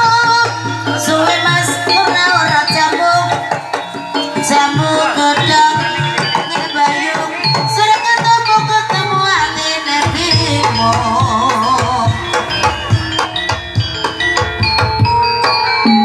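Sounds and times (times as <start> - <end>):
hand drum strokes bending in pitch: 0.0 - 16.0
wavering melody: 0.0 - 16.0.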